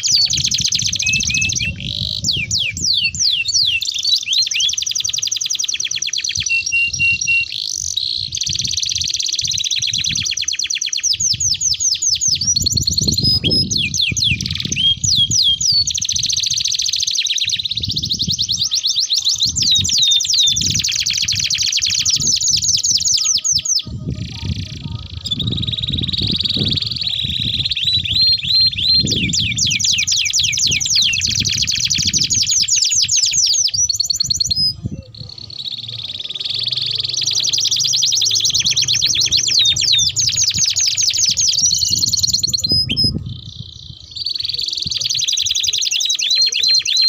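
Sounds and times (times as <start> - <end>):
canaries singing trills: 0.0 - 47.0.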